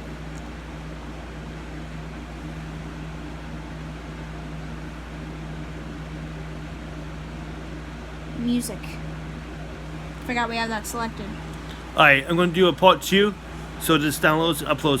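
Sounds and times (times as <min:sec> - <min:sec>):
fan-like room hum: 0:00.0 - 0:15.0.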